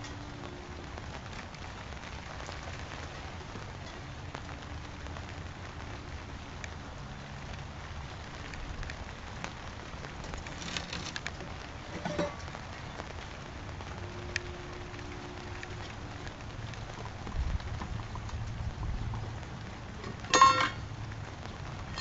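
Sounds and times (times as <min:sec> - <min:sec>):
rain pattering on patio: 0:00.0 - 0:22.0.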